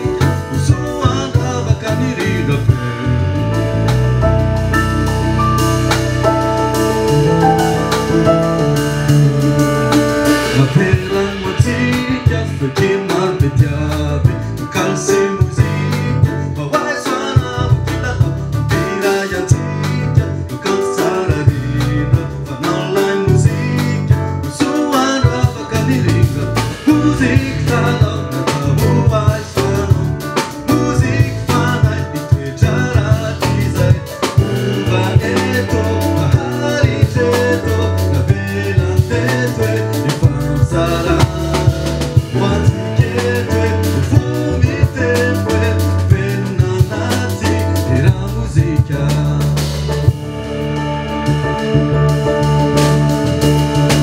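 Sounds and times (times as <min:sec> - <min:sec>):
man singing into a microphone: 0:00.0 - 0:03.9, 0:10.2 - 0:54.0
drum kit: 0:00.0 - 0:54.0
electric keyboard: 0:00.0 - 0:54.0
guitar: 0:00.0 - 0:54.0.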